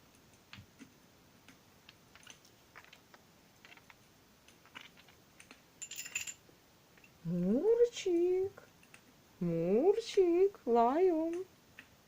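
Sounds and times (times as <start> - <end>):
fireplace fire crackling: 0.0 - 12.0.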